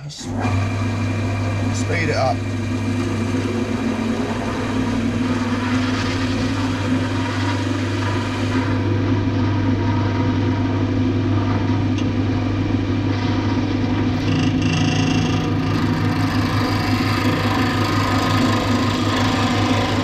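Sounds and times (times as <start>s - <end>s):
wood lathe motor humming: 0.0s - 20.0s.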